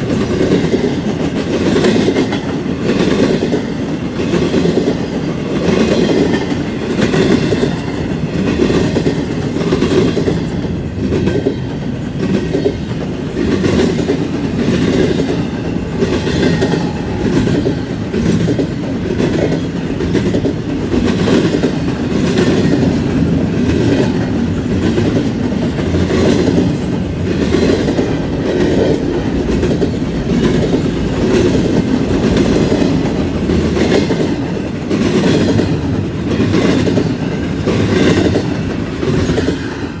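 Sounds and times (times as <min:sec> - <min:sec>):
train wheels clickety-clack on rail: 0:00.0 - 0:40.0.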